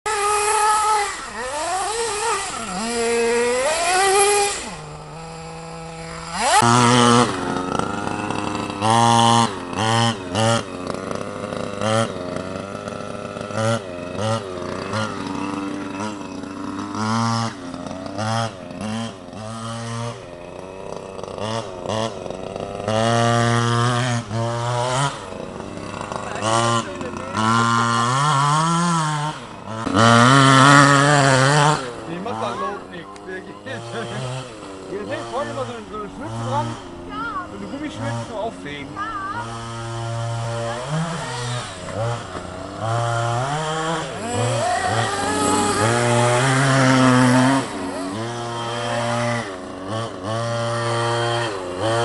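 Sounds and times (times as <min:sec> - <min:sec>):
small engine revving: 0:00.0 - 0:52.0.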